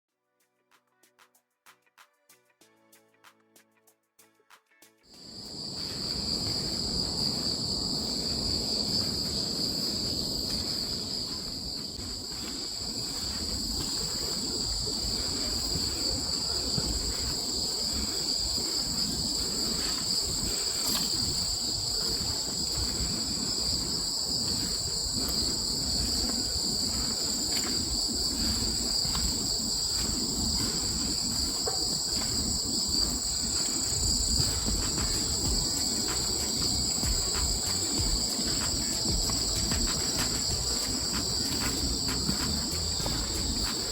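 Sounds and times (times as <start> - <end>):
crickets trilling: 5.1 - 43.9.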